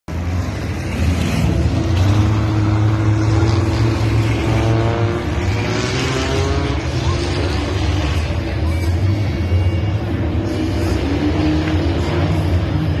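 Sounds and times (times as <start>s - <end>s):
car engine low hum: 0.1s - 13.0s
higher engine tone: 0.1s - 13.0s.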